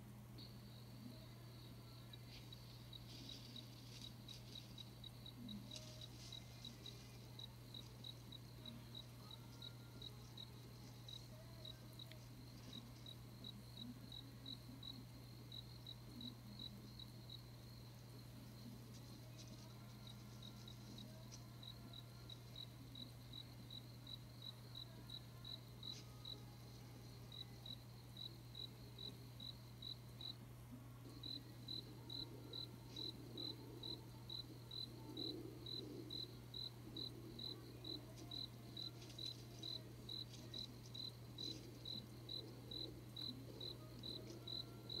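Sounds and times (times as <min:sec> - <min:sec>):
low steady hum: 0:00.0 - 0:45.0
cricket chirping: 0:00.1 - 0:45.0.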